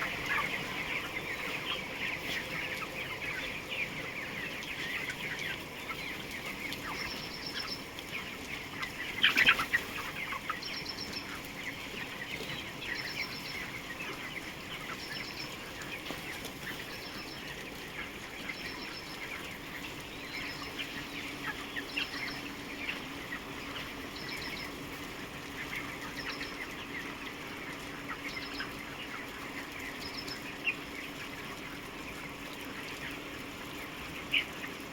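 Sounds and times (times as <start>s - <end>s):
flock of chickens clucking: 0.0s - 34.9s.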